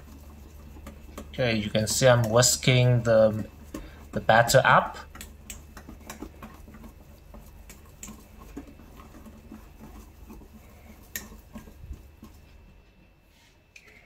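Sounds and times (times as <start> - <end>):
whisk wires clicking against bowl: 0.0 - 12.8
whisk beating batter in bowl: 0.0 - 13.2.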